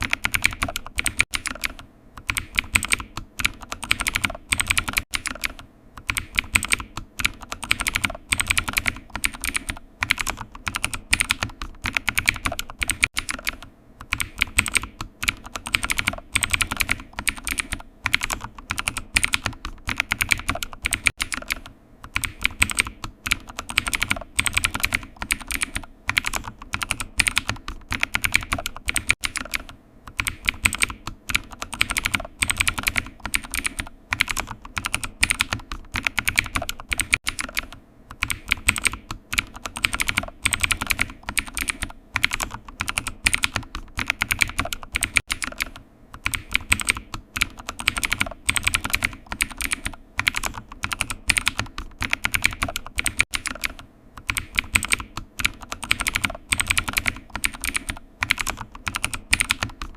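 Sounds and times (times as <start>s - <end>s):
computer keyboard typing: 0.0s - 59.9s.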